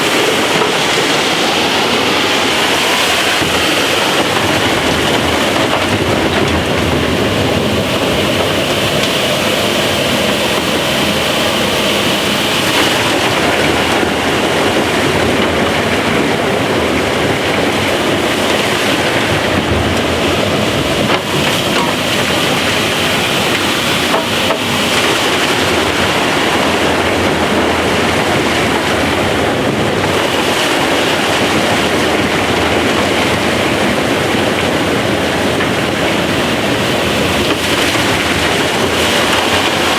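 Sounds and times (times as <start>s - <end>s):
blower roaring: 0.0s - 39.9s.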